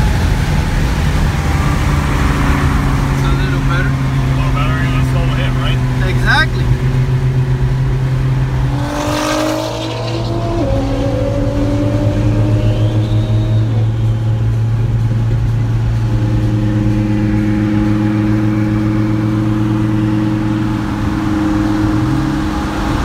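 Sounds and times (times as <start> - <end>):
car engine drone: 0.0 - 23.0
tyre road noise: 0.0 - 23.0.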